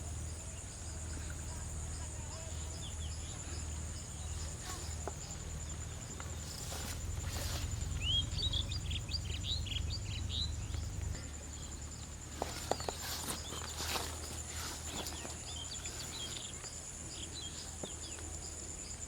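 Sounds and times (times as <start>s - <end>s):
bird chirping: 0.0s - 19.0s
high insect drone: 0.0s - 19.0s.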